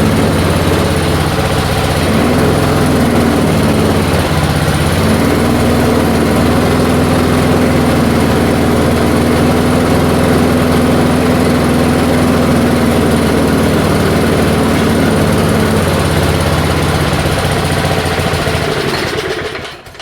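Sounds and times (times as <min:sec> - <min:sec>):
push mower engine running: 0:00.0 - 0:20.0.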